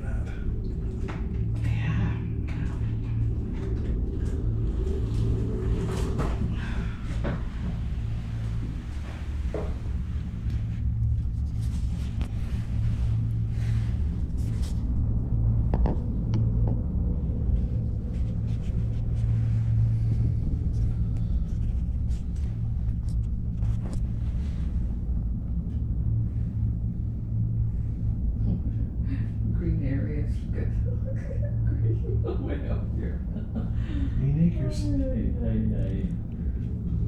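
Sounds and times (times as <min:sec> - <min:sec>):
gondola cabin rumble: 0:00.0 - 0:37.0.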